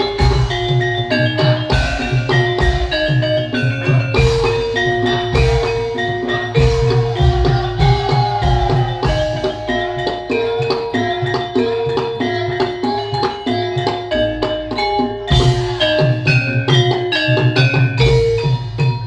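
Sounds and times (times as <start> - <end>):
drum strokes: 0.0 - 19.0
metallophones playing struck notes: 0.0 - 19.0.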